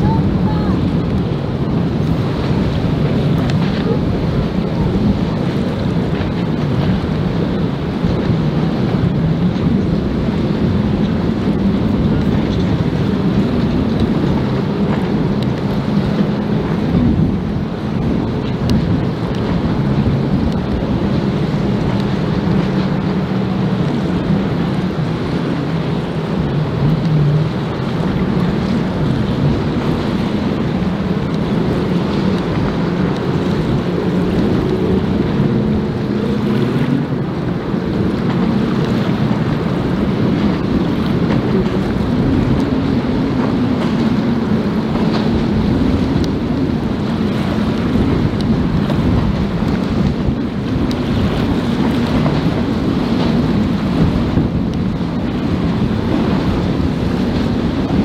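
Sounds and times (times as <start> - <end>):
motorboat engines droning: 0.0 - 58.0
waves washing: 0.0 - 58.0
wind buffeting microphone: 0.0 - 58.0.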